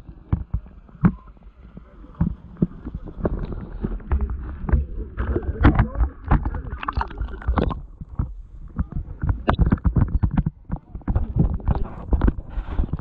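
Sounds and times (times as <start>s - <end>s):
crackling splashes: 0.0s - 13.0s
muffled low rumble: 0.0s - 13.0s
water sloshing and gurgling: 0.0s - 13.0s.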